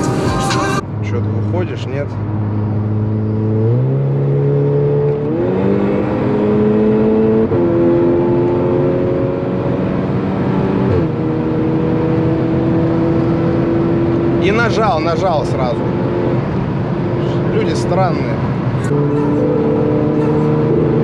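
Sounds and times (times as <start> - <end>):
car engine accelerating hard: 1.0 - 21.0.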